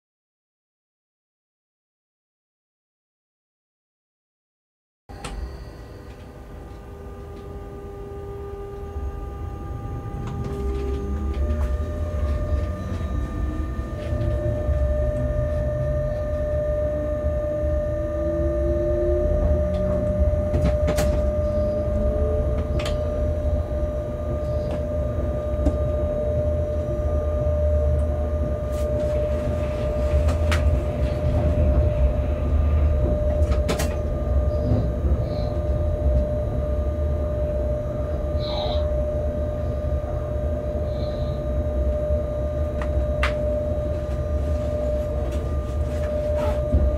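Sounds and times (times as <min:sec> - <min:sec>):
locomotive rumble with whine: 0:05.1 - 0:46.9.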